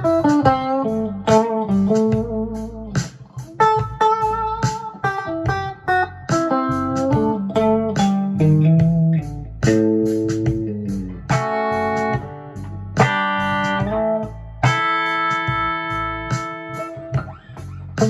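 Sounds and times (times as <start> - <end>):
electric guitar notes and chords: 0.0 - 18.0.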